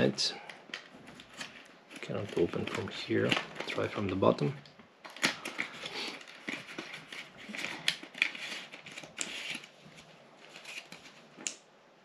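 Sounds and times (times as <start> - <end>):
packaging rustling and crinkling: 0.5 - 11.5.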